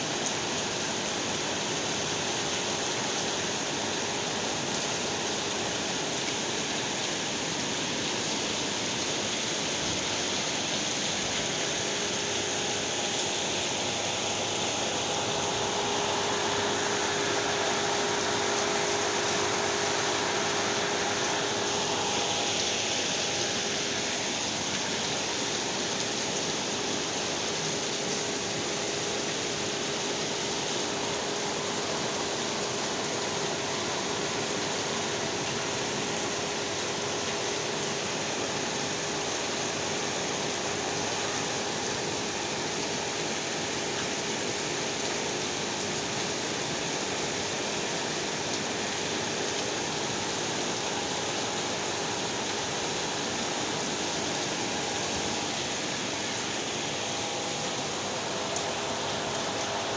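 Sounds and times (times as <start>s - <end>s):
heavy rain: 0.1s - 59.9s.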